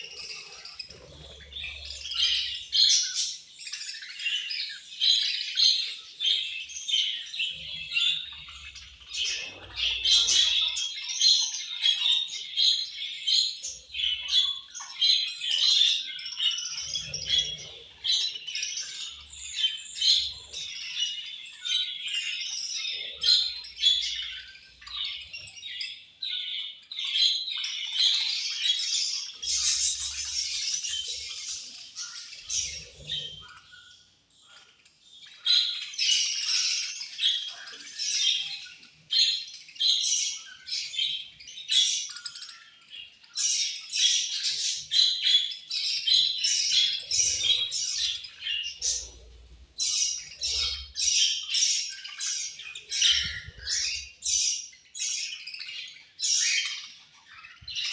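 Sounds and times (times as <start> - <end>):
budgerigars chirping and squawking: 0.0 - 57.9.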